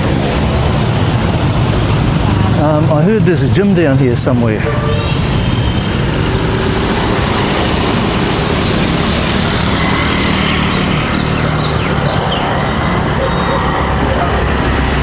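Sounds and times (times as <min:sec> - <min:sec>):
road noise: 0:00.0 - 0:15.0
vehicle engines running: 0:00.0 - 0:15.0.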